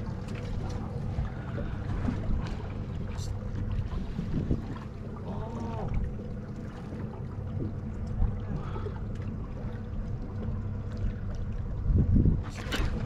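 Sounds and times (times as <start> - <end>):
boat engine idling: 0.0 - 13.0
water lapping against hull: 0.0 - 13.0
wind: 0.0 - 13.0.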